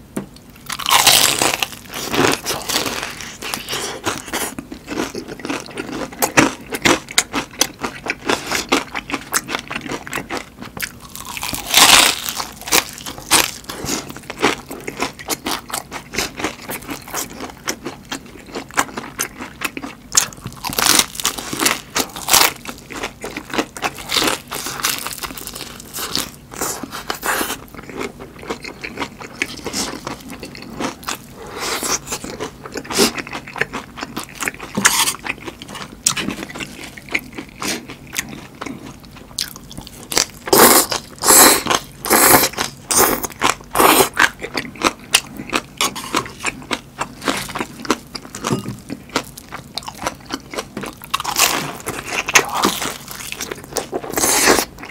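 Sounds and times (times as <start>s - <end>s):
crunching and chewing fried food: 0.3s - 54.9s.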